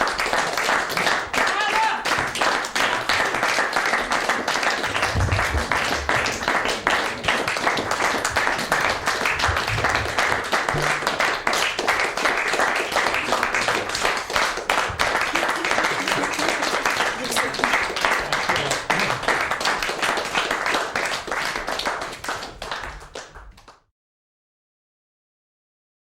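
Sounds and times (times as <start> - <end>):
audience applauding: 0.0 - 23.8.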